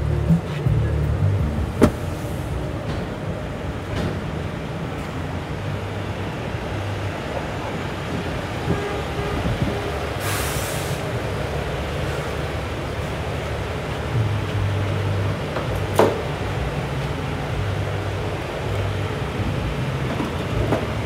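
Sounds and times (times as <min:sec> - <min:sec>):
diesel truck engines rumbling: 0:00.0 - 0:21.0.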